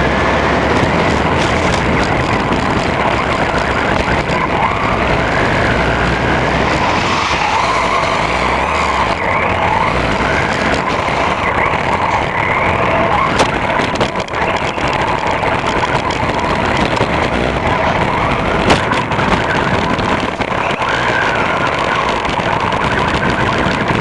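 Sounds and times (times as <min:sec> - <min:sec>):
electric motor and gears whining: 0:00.0 - 0:24.0
tyres on wet pavement: 0:00.0 - 0:24.0.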